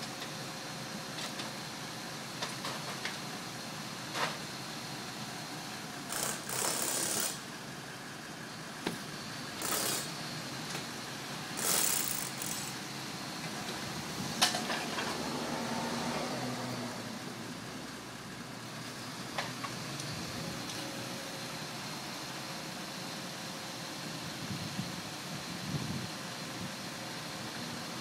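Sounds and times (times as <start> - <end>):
crane truck machine noise: 0.0 - 28.0.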